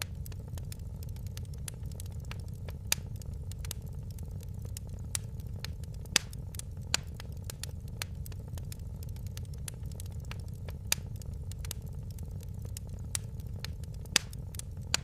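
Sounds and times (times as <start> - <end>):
fire pops: 0.0 - 15.0
wood fire crackling: 0.0 - 15.0.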